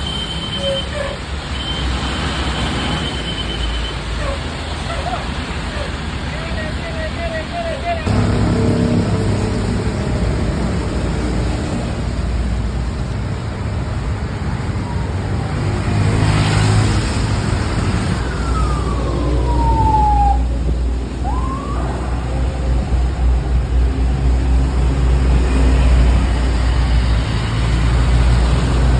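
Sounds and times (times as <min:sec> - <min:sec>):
bus engine rumbling: 0:00.0 - 0:28.9.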